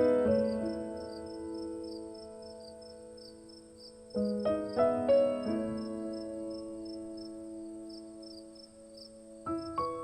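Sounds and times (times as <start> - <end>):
high cricket-like chirps: 0.0 - 10.0.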